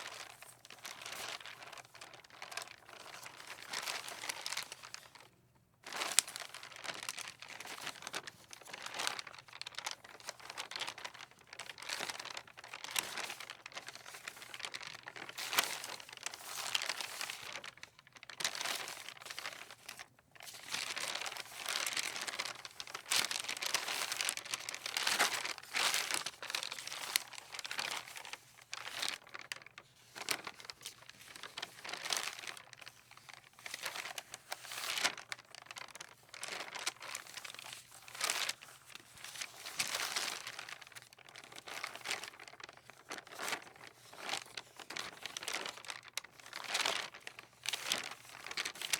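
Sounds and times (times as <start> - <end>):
paper rustling in wind: 0.0 - 48.9.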